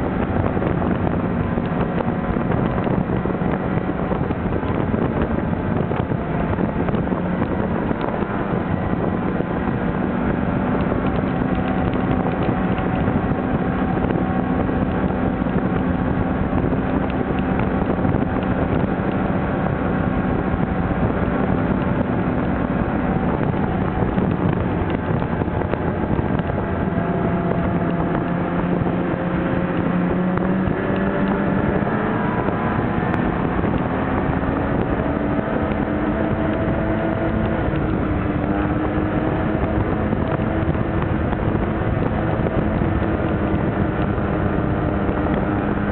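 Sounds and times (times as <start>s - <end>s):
snowmobile engine running: 0.0s - 45.9s
wind buffeting microphone: 0.0s - 45.9s.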